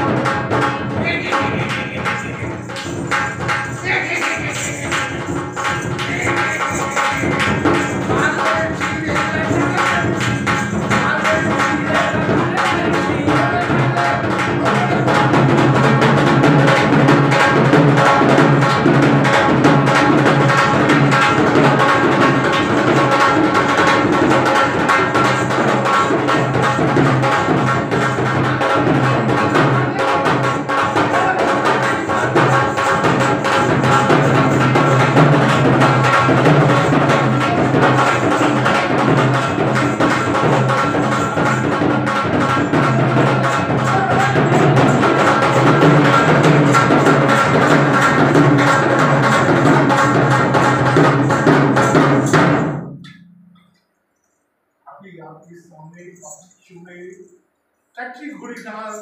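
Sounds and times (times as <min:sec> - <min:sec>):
folk dance music with drumming: 0:00.0 - 0:53.5.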